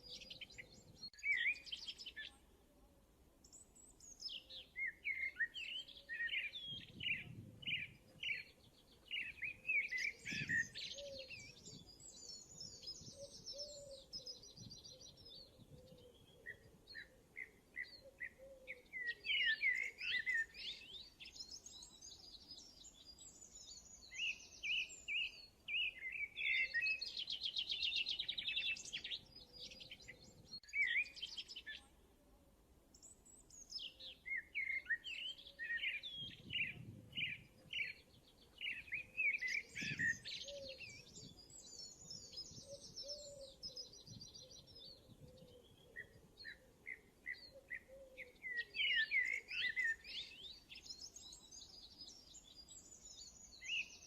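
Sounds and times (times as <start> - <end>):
small birds chirping: 0.0 - 2.6, 3.4 - 32.1, 32.9 - 54.0.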